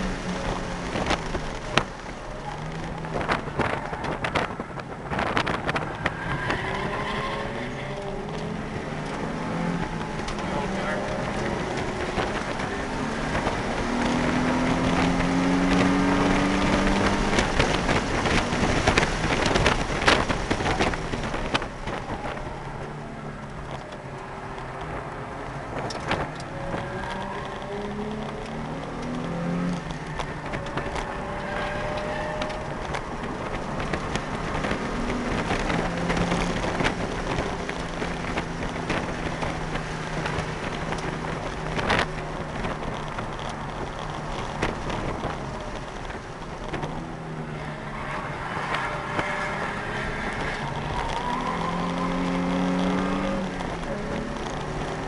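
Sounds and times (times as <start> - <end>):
car engine revving and shifting: 0.0 - 55.0
road and wind noise: 0.0 - 55.0.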